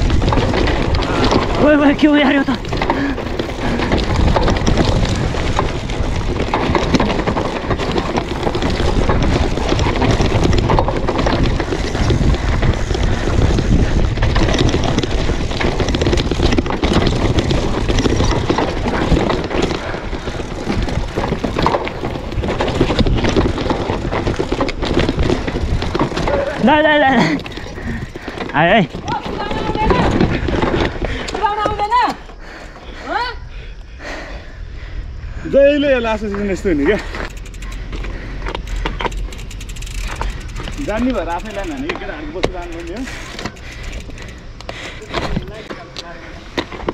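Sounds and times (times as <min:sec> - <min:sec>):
bike rattling over bumps: 0:00.0 - 0:46.9
bike tyres rolling over dirt: 0:00.0 - 0:46.9
wind buffeting microphone: 0:00.0 - 0:46.9.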